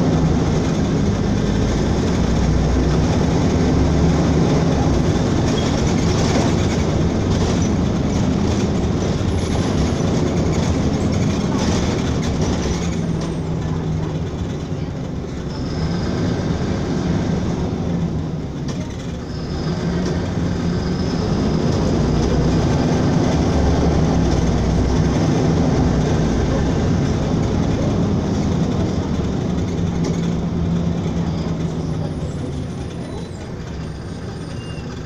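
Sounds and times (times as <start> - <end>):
bus diesel engine drone: 0.0 - 35.0
road and body rattle: 0.0 - 35.0.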